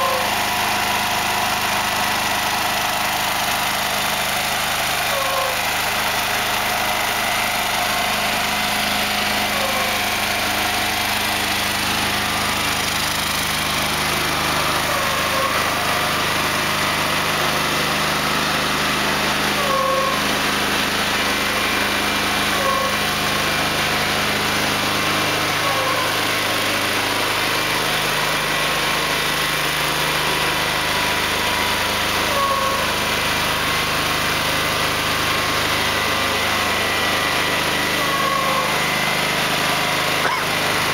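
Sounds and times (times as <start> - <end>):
heavy vehicle engine running: 0.0 - 40.9.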